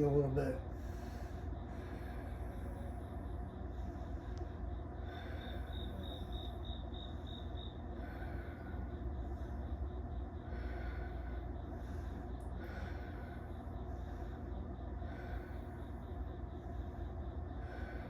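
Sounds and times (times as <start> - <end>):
insect chirping: 0.0 - 18.0
steady low rumble: 0.0 - 18.0
slow breaths: 0.6 - 18.0.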